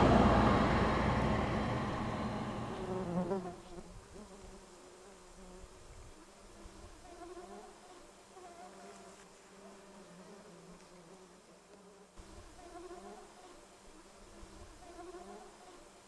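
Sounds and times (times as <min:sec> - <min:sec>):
flies buzzing: 0:02.1 - 0:16.0.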